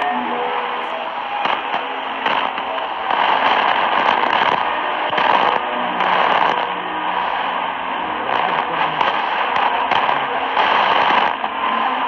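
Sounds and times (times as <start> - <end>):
faint radio programme: 0.0 - 12.0
radio hiss: 0.0 - 12.0
static crackling: 0.0 - 12.0.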